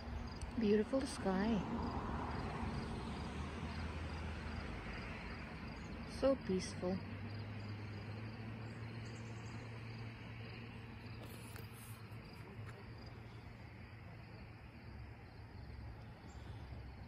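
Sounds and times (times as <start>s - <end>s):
faint insect chirping: 0.0s - 17.0s.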